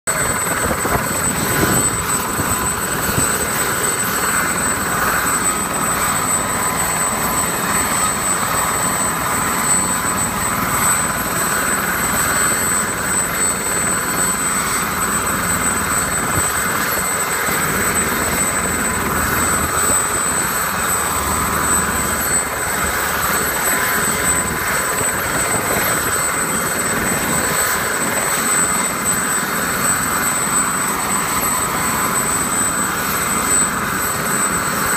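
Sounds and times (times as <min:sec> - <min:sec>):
helicopter rotor turning: 0:00.0 - 0:34.9
turbine engine whine: 0:00.0 - 0:34.9.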